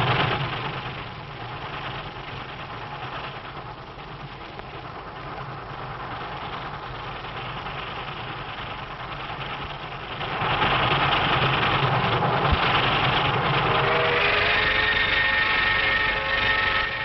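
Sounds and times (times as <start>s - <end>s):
steam locomotive running: 0.0s - 17.0s.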